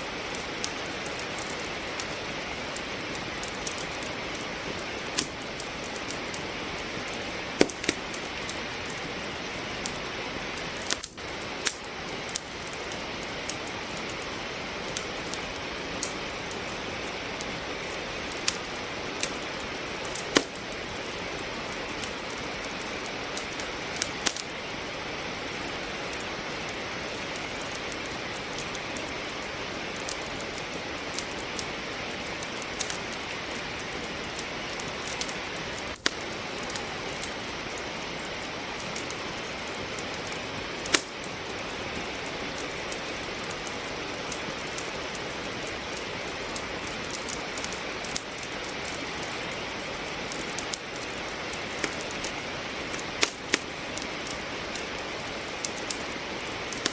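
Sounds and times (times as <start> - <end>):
rain hissing: 0.0 - 56.9
wood fire crackling: 0.0 - 56.9.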